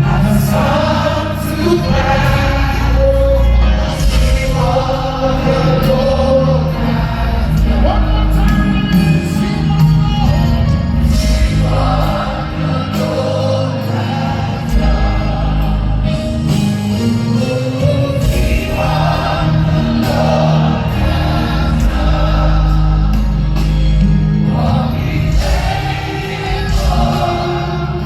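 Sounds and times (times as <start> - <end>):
choir singing over a band: 0.0 - 28.0
deep bass notes: 0.0 - 28.0.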